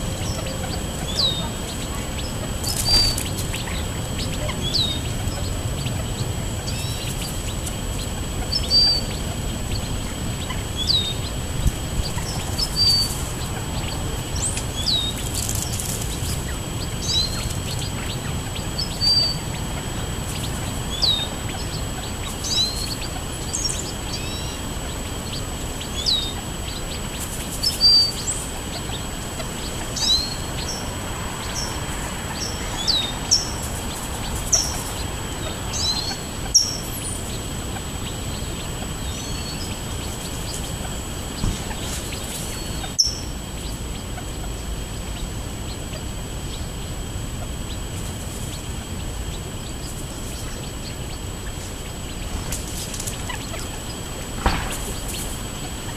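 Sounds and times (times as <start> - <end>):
birds chirping: 0.0 - 55.9
low outdoor rumble: 0.0 - 55.9.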